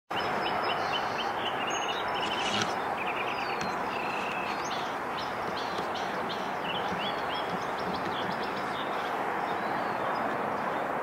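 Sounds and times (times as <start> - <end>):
small birds chirping: 0.1 - 11.0
distant traffic hiss: 0.2 - 11.0.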